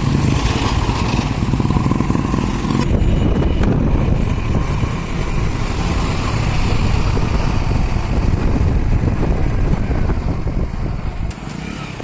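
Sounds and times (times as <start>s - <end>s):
diesel truck engine rumble: 0.0s - 12.0s
road and wind hiss: 0.0s - 12.0s.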